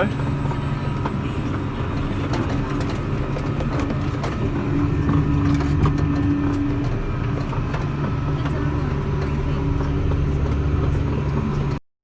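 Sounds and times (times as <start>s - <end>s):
vehicle engine running: 0.0s - 11.8s.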